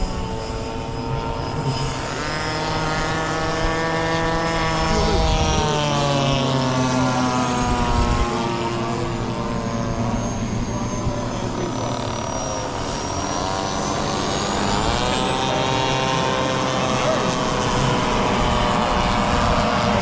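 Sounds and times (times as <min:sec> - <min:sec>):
model jet turbine whine: 0:00.0 - 0:20.0
model propeller plane buzzing: 0:00.0 - 0:20.0.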